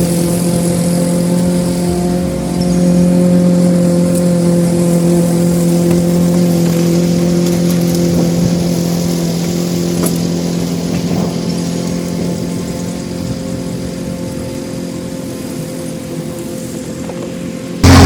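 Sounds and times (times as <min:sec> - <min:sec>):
lawnmower engine running: 0:00.0 - 0:18.0.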